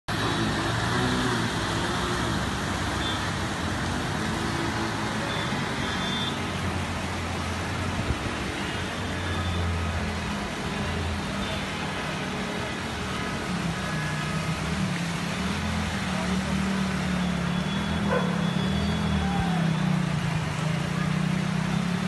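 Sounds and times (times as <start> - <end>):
floodwater rushing: 0.1 - 22.0
rain: 0.1 - 22.0
vehicle engines humming: 0.1 - 22.0.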